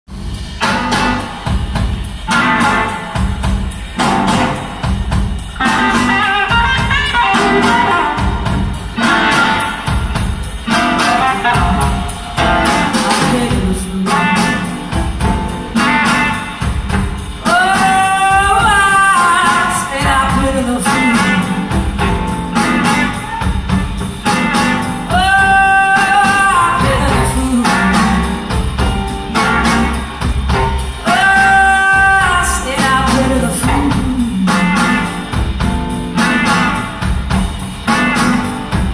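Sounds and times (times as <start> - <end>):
live blues band playing: 0.1 - 38.9.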